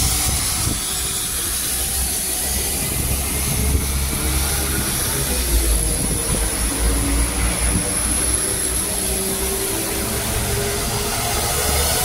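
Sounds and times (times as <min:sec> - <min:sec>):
diesel train engine rumble: 0:00.0 - 0:12.0
engine whine: 0:00.0 - 0:12.0.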